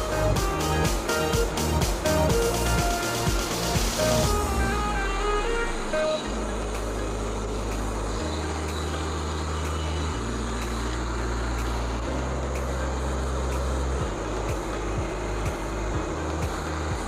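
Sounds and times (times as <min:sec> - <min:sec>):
background music with bass line: 0:00.0 - 0:17.0
steady hiss: 0:00.0 - 0:17.0.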